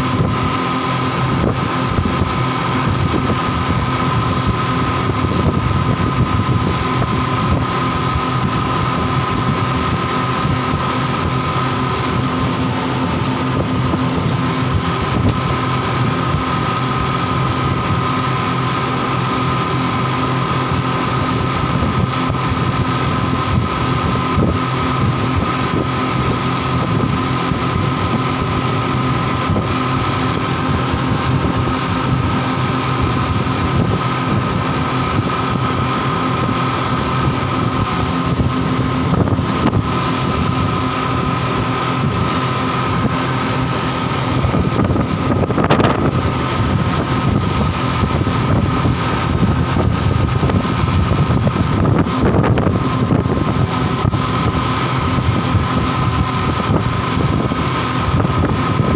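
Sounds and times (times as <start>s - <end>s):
rush of wind and water: 0.0s - 58.9s
speedboat engines droning: 0.0s - 58.9s.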